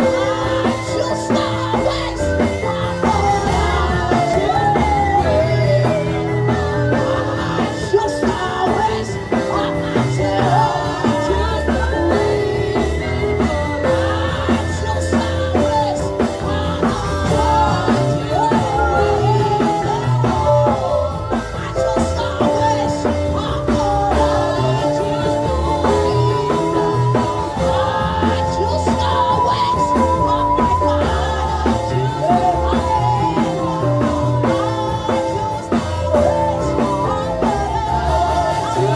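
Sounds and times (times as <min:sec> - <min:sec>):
worship band music: 0:00.0 - 0:38.9.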